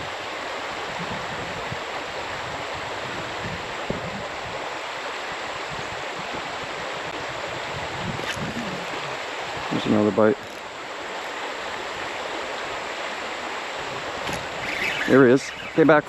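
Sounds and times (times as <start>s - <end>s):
creek water rushing through rapids: 0.0s - 16.0s.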